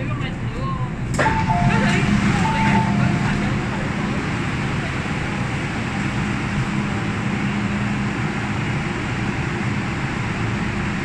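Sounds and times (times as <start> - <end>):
train hum and rumble: 0.0 - 11.0.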